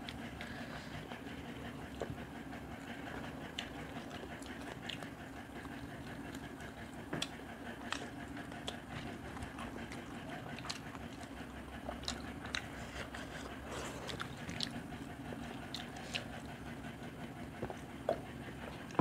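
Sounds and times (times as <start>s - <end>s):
wet chewing and mouth sounds: 0.0s - 19.0s.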